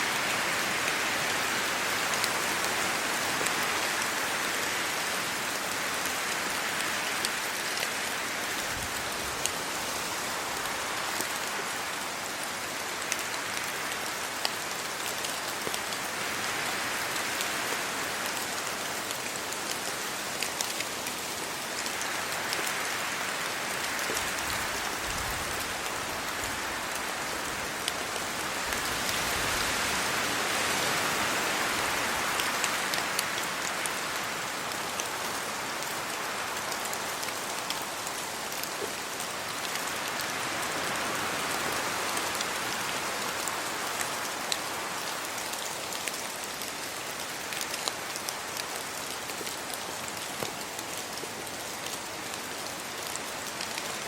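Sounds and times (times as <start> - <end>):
rain falling on leaves: 0.0 - 54.0
wind through wet foliage: 0.0 - 54.0.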